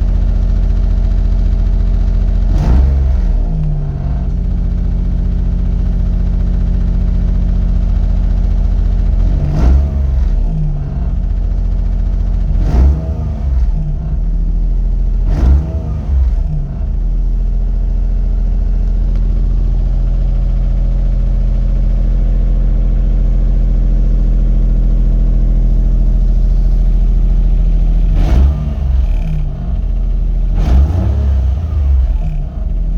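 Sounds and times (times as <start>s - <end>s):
car engine idling and revving: 0.0s - 32.9s.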